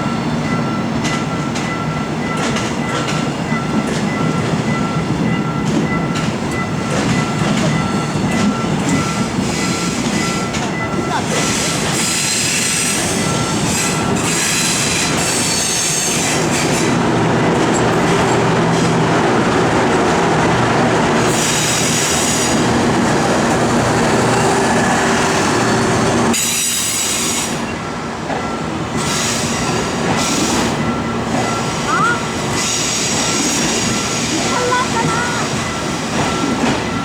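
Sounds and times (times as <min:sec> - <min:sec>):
train wheels squealing on rails: 0:00.0 - 0:37.0.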